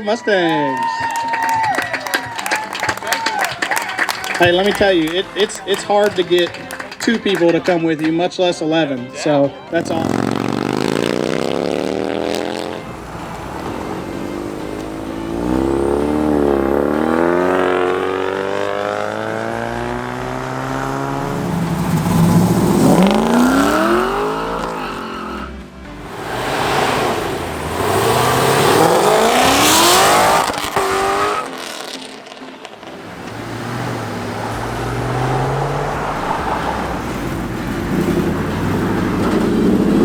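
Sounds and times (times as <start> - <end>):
car engine revving: 3.9 - 8.1, 9.7 - 40.0.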